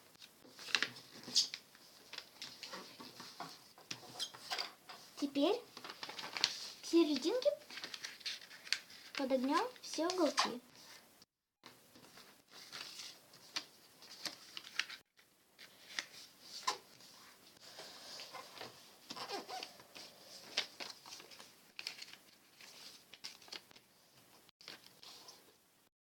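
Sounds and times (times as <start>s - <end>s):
paper rustling and creasing: 0.2s - 11.0s, 11.9s - 25.5s.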